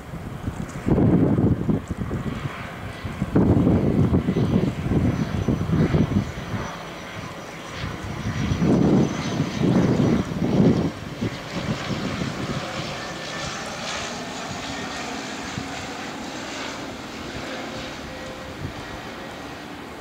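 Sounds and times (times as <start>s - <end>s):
propeller plane droning past: 0.0s - 20.0s.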